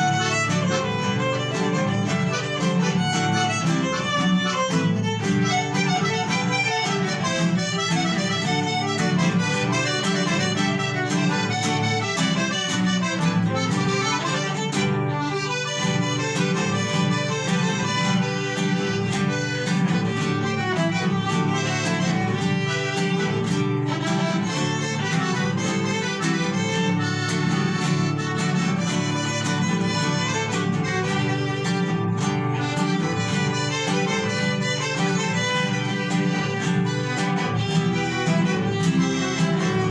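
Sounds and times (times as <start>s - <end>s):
plucked string accompaniment: 0.0s - 39.9s
violins playing: 0.0s - 39.9s.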